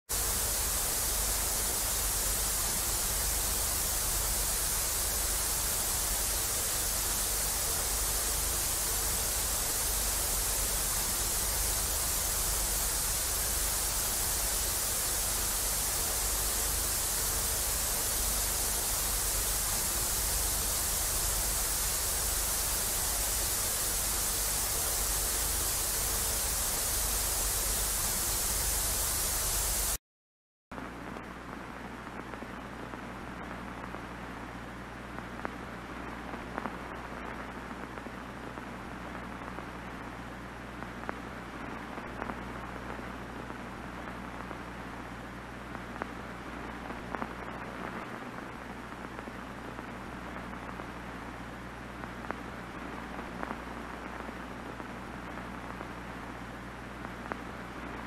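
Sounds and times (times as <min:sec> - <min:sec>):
television static hiss: 0:00.1 - 0:30.0, 0:30.7 - 0:58.0.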